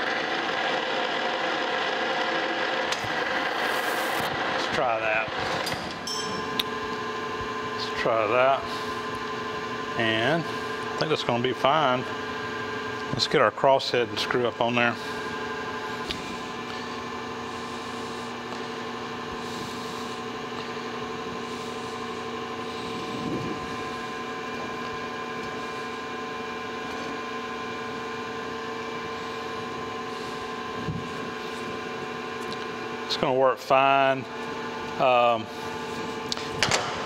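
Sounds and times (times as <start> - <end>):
electric motor hum: 0.0 - 37.0.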